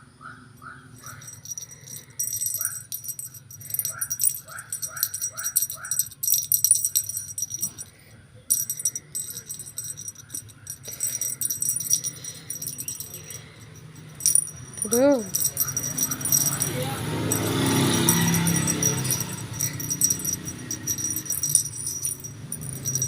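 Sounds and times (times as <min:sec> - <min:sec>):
jingle bells shaken: 0:01.0 - 0:23.0.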